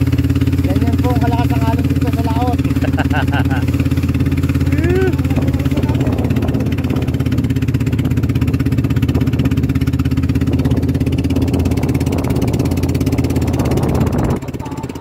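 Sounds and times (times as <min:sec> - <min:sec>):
boat engine running: 0:00.0 - 0:15.0
water splashing along hull: 0:00.0 - 0:15.0.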